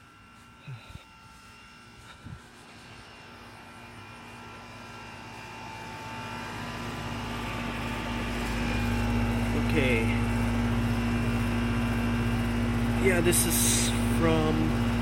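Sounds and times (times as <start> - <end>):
compressor hum: 0.0 - 15.0
condenser fan rushing: 0.0 - 15.0.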